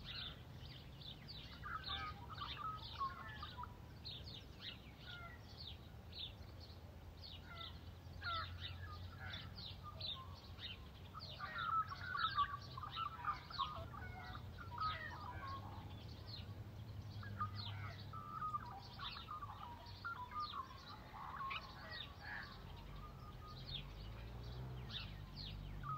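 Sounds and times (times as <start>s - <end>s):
birds chirping and calling: 0.0s - 25.9s.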